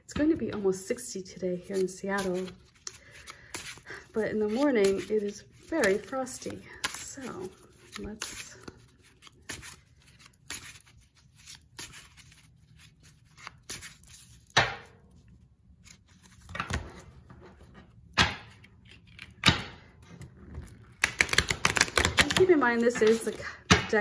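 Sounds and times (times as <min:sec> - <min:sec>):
cards being shuffled: 0:01.5 - 0:14.8, 0:15.7 - 0:23.5.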